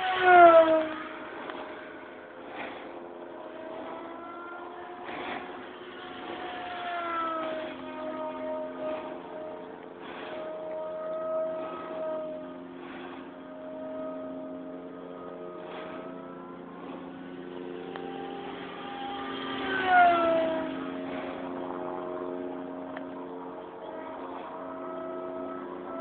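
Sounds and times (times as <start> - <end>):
model plane motor whine: 0.0 - 26.0.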